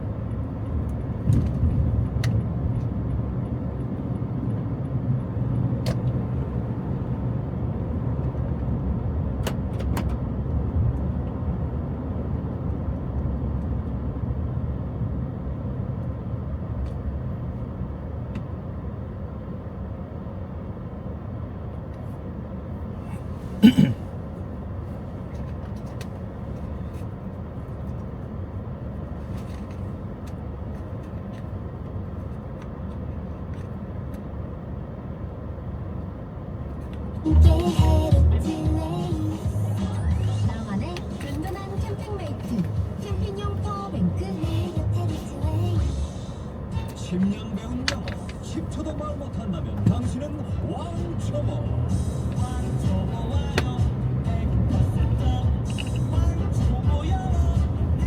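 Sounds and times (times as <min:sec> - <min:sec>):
car driving rumble inside cabin: 0:00.0 - 0:58.0.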